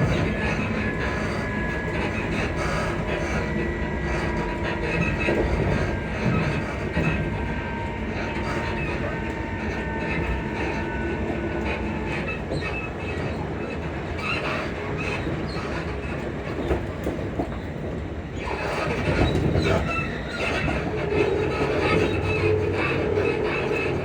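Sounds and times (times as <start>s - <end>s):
train wheel and rail noise: 0.0s - 24.0s.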